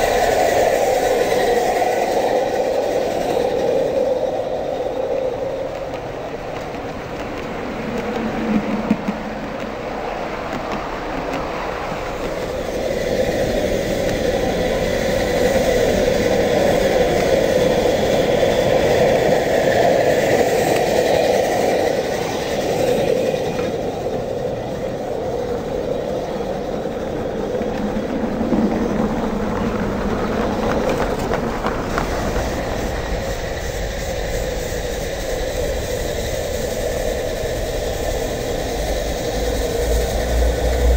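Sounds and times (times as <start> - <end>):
model train wheels rumbling on track: 0.0 - 40.9.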